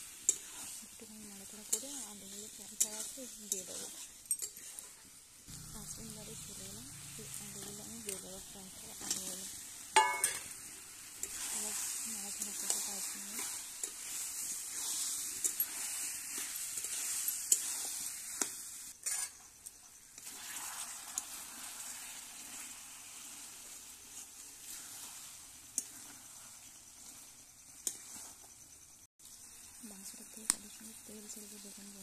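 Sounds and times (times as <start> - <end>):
metal spatula scraping a pan: 0.0 - 28.5
curry sizzling in a pan: 0.0 - 32.0.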